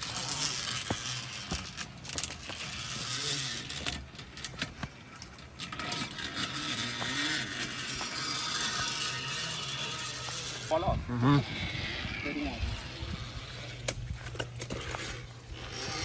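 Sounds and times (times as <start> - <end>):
metal clinks and scrapes: 0.0 - 16.0.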